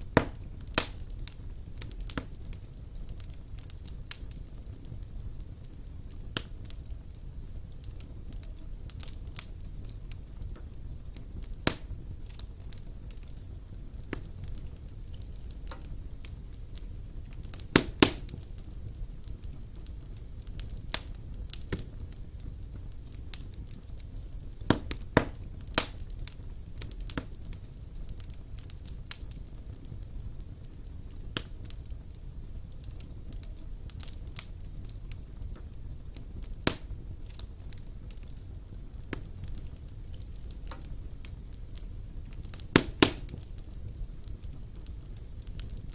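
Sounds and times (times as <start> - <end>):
fire flames rumbling: 0.0 - 45.9
logs crackling and popping: 0.0 - 45.9.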